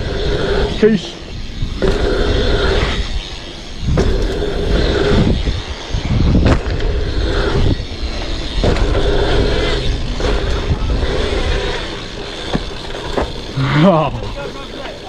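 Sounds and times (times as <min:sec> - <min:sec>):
wind rushing over microphone: 0:00.0 - 0:14.4
tyres rolling on dirt: 0:01.8 - 0:15.0.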